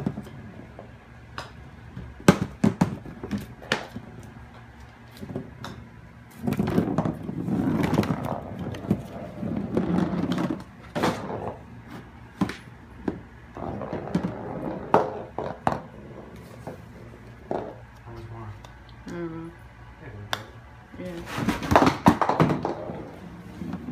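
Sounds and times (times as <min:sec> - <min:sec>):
golf balls rolling on plastic: 0:00.0 - 0:19.3, 0:20.3 - 0:23.9.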